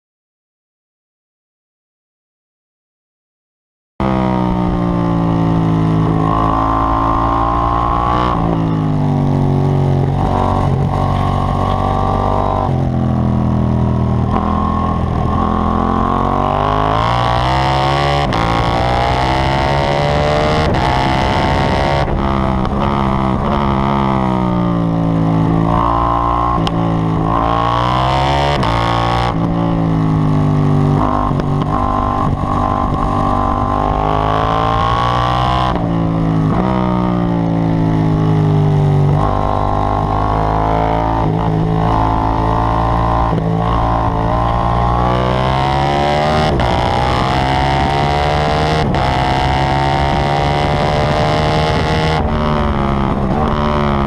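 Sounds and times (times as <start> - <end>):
motorcycle engine at full throttle: 4.0 - 54.0.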